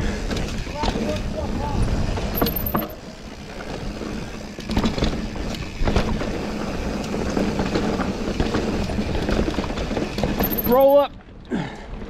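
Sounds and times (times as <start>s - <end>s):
bike tyre noise on pebbles: 0.0s - 11.1s
bike rattling over stones: 0.0s - 11.2s.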